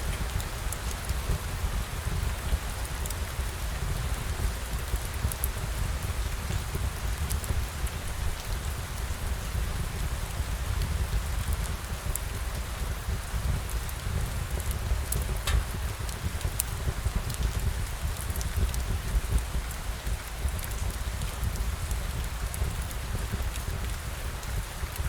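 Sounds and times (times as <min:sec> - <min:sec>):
raindrops ticking: 0:00.0 - 0:25.0
steady rain falling: 0:00.0 - 0:25.0.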